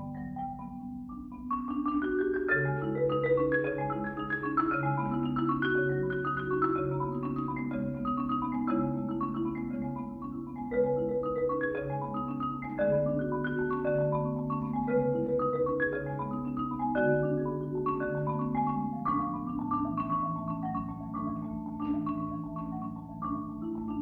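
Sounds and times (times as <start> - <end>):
marimba played with mallets: 0.0 - 24.0.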